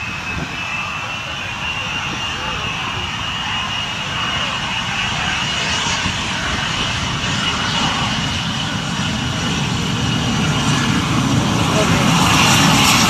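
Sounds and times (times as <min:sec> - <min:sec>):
jet engine running with whine: 0:00.0 - 0:13.0.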